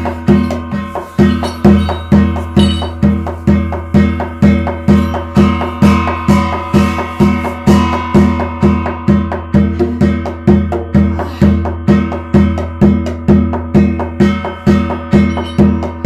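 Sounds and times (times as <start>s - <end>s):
percussion steady beat: 0.0s - 16.0s
ringing metallic tones: 0.0s - 16.0s.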